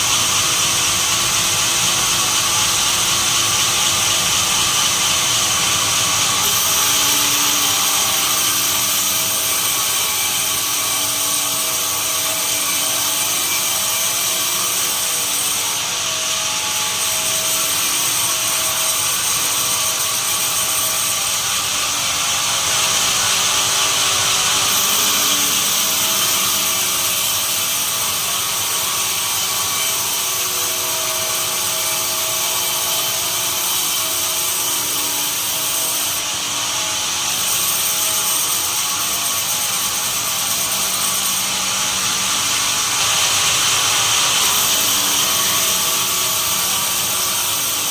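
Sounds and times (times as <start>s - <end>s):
sawmill machine whine: 0.0s - 47.9s.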